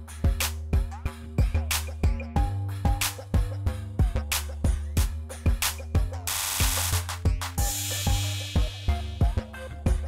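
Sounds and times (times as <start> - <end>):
background music with steady beat: 0.0 - 10.0
sustained bass line: 0.0 - 10.0.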